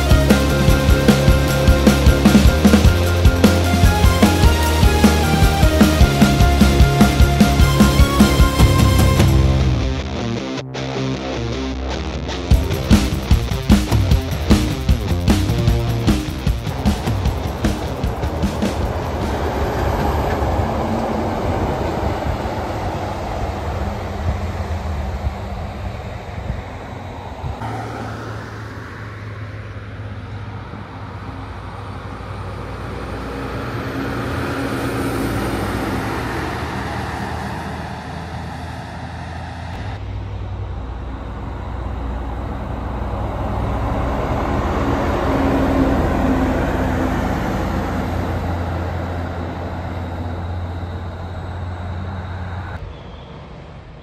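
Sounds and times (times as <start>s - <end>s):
trucks driving past: 0.0s - 54.0s.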